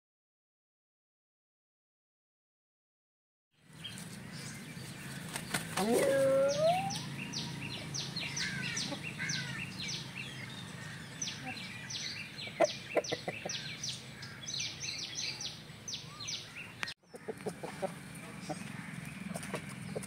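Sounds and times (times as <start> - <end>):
birds chirping rapidly: 3.6 - 20.0.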